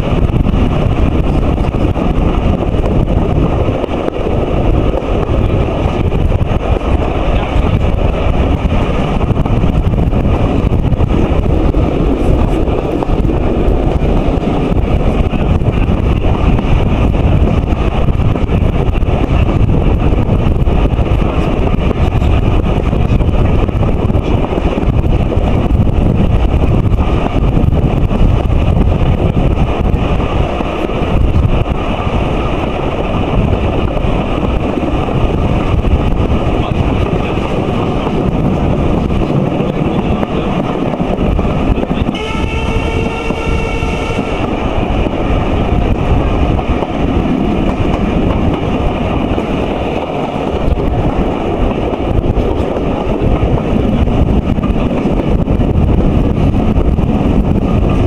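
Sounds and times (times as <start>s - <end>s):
steam train running: 0.0s - 58.0s
wind rushing over microphone: 0.0s - 58.0s.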